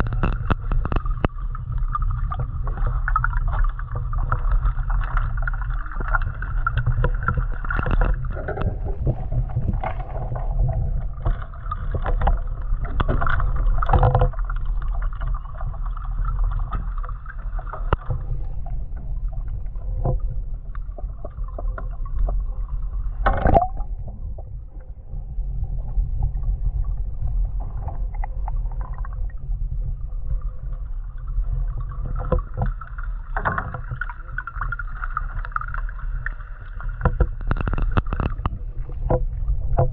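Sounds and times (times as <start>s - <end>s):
water splashing: 0.0s - 24.9s, 26.6s - 39.9s
low rumble: 0.0s - 39.9s.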